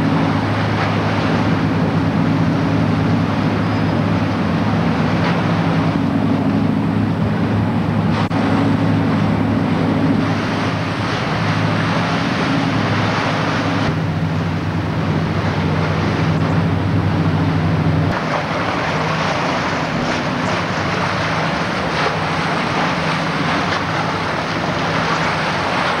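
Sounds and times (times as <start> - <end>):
low engine drone: 0.0 - 26.0
traffic noise: 0.0 - 26.0
water: 0.0 - 26.0
wind on microphone: 0.0 - 26.0.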